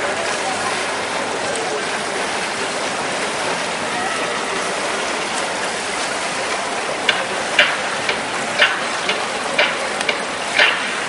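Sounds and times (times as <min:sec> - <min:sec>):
swimmers splashing: 0:00.0 - 0:11.0.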